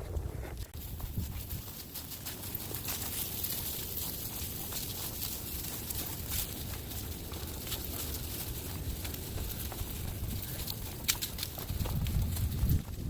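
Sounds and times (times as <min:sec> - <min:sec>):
light ticks and rustles: 0:00.0 - 0:13.0
wind buffeting microphone: 0:00.0 - 0:13.0.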